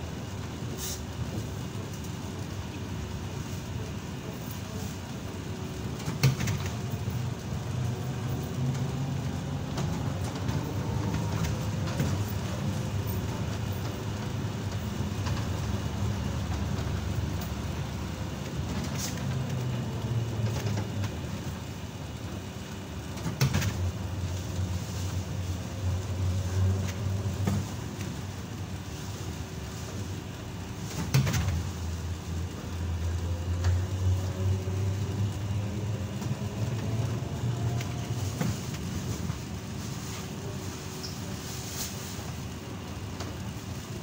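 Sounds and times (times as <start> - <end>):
trolleybus rumbling with whine: 0.0 - 44.0.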